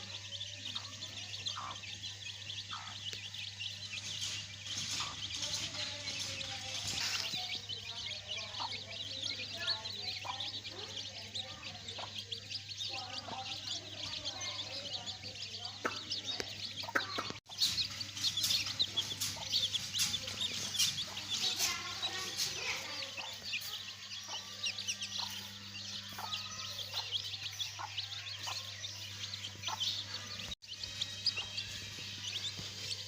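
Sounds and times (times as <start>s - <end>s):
chicks clucking: 0.0s - 33.0s
chicks peeping: 0.0s - 33.0s.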